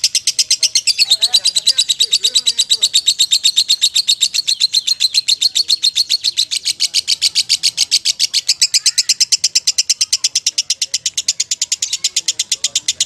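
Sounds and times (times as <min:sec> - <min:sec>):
lovebird rapid high chirps: 0:00.0 - 0:13.0.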